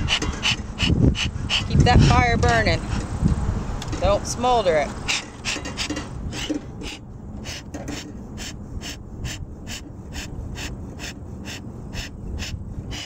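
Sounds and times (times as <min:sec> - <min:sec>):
bellows puffing air: 0:00.0 - 0:03.2, 0:05.0 - 0:13.0.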